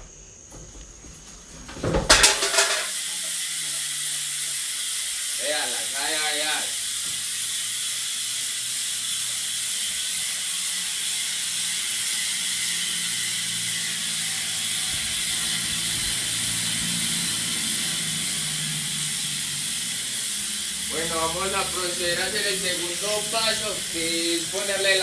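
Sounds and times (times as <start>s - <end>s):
bicycle freewheel ratchet buzzing: 2.1s - 25.0s.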